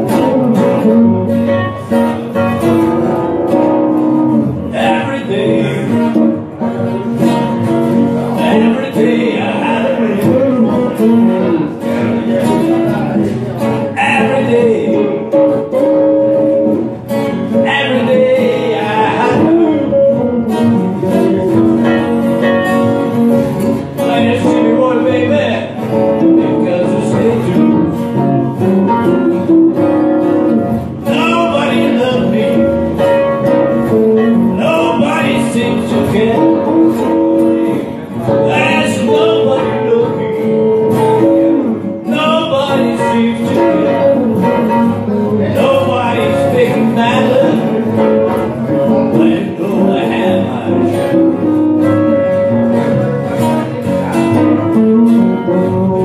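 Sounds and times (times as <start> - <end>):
electric guitar: 0.0 - 56.0
strummed acoustic guitar: 0.0 - 56.0.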